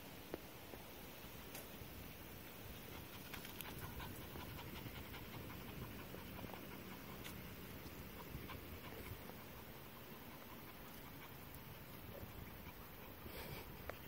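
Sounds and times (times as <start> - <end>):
puppy panting faintly: 2.6 - 14.0.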